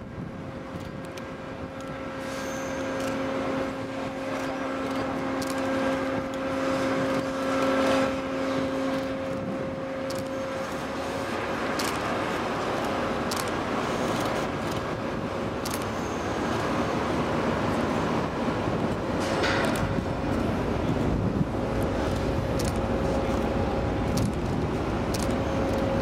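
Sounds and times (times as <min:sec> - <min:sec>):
low droning hum: 0:00.0 - 0:26.0
machinery noise outdoors: 0:00.0 - 0:26.0.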